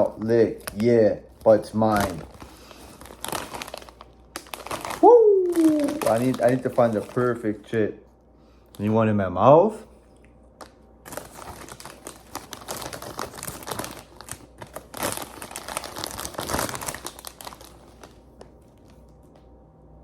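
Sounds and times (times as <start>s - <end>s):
foil chip bag crinkling: 0.0s - 7.8s, 10.6s - 19.2s.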